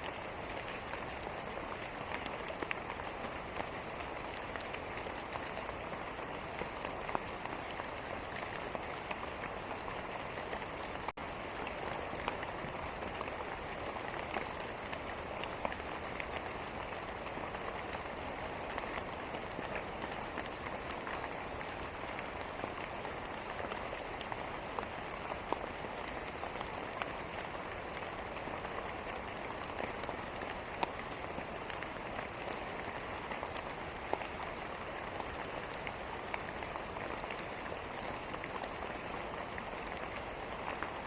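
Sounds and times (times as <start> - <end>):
steady rainfall: 0.0 - 41.0.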